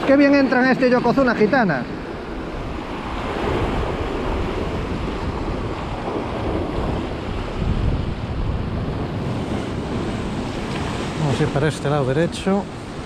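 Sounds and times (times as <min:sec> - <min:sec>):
surf washing against rocky shore: 0:00.0 - 0:13.0
wind buffeting microphone: 0:00.0 - 0:13.0.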